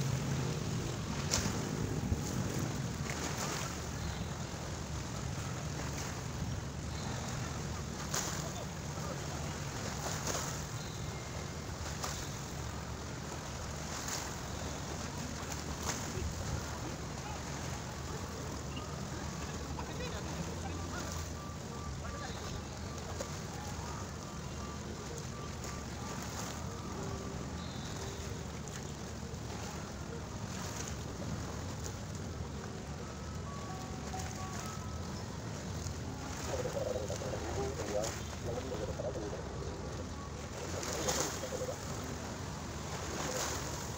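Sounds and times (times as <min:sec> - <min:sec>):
small waves washing over road: 0:00.0 - 0:43.9.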